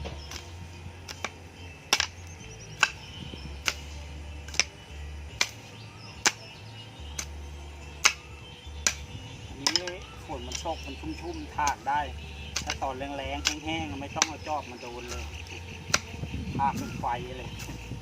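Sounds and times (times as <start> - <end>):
hoe chopping soil: 0.0 - 18.0.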